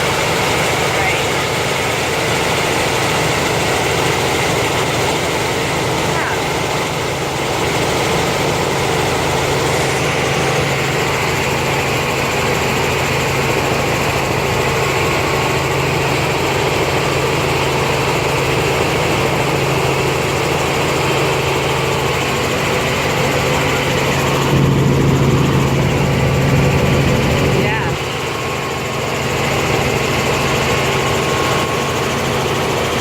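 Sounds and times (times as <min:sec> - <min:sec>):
helicopter engine and rotor: 0:00.0 - 0:33.0.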